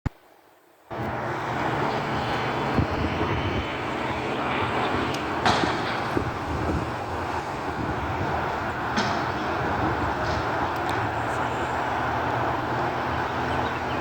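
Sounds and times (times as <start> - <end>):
garbage truck diesel engine running: 0.9 - 14.0.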